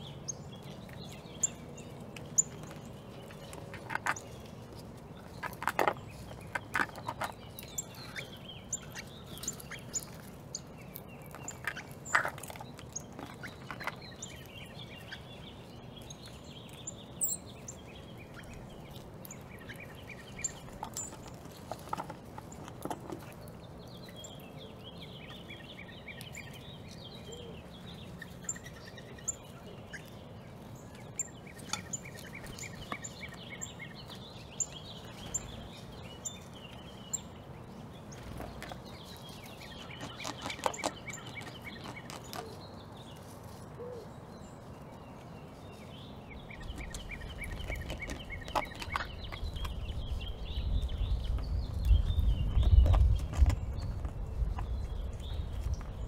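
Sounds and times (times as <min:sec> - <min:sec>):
outdoor background noise: 0:00.0 - 0:56.0
small birds chirping: 0:00.0 - 0:56.0.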